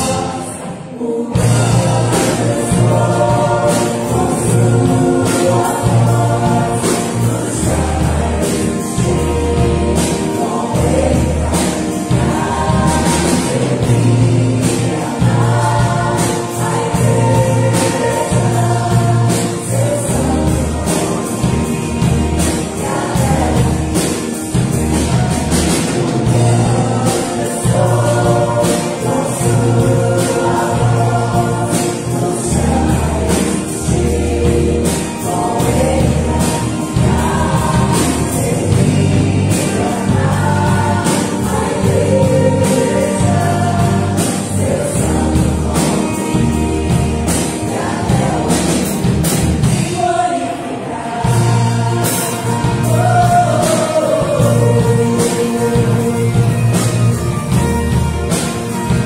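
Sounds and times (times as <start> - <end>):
choir singing gospel: 0.0 - 59.0
live band playing: 0.0 - 59.0.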